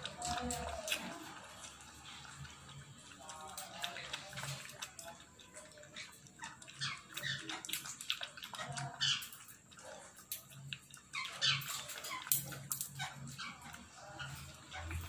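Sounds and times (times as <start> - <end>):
puppies lapping milk: 0.0 - 15.0.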